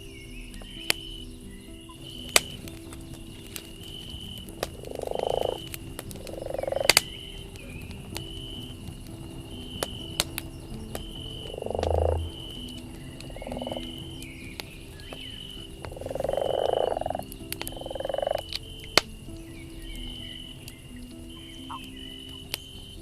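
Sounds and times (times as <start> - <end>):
campfire crackling and popping: 0.0 - 23.0
pulsed croaking calls: 0.3 - 23.0.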